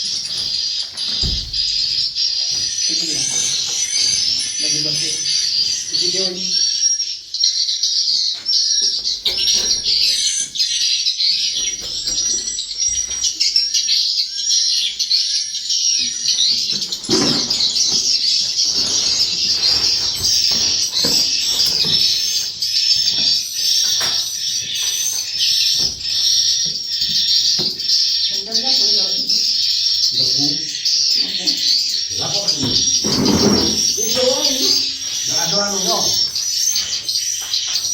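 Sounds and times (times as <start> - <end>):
swiftlets chirping: 0.0 - 37.9.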